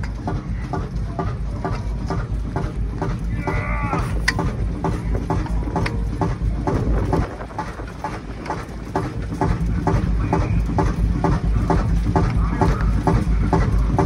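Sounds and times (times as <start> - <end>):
machinery rumbling: 0.0 - 14.0
regular machine clicks: 0.0 - 14.0.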